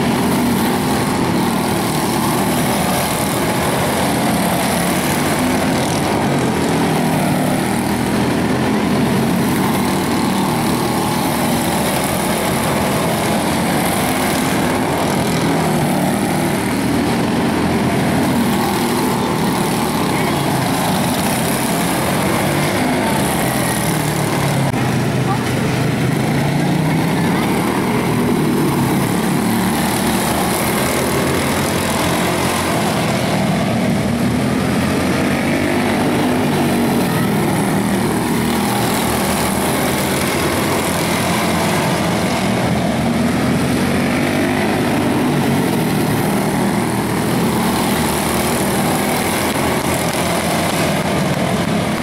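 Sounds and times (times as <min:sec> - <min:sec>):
race car engines buzzing: 0:00.0 - 0:52.0.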